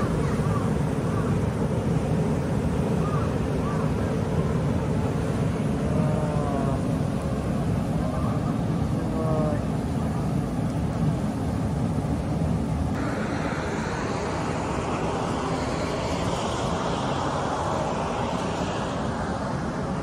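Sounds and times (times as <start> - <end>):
low rumbling outdoor noise: 0.0 - 20.0.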